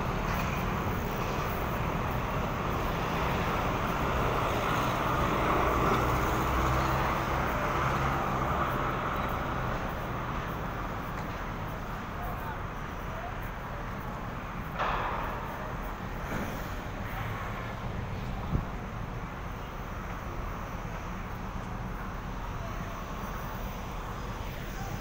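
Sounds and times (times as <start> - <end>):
street traffic passing: 0.0 - 25.0.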